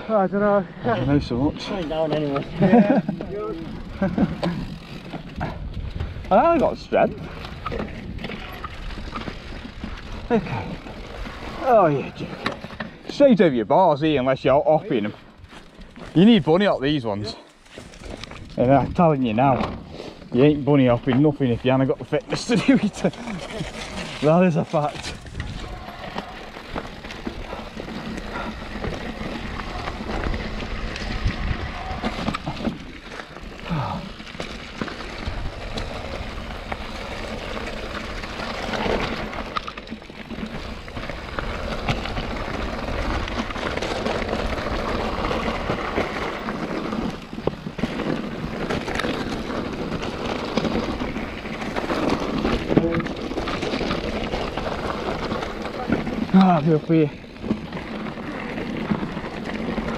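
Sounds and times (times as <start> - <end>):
bike tyres over stones: 0.0 - 59.9
bike knocking and rattling: 0.3 - 59.9.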